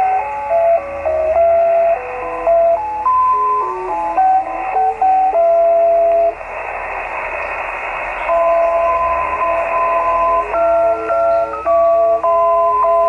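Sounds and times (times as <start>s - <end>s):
radio melody of single notes: 0.0s - 13.0s
shortwave static hiss: 0.0s - 13.0s.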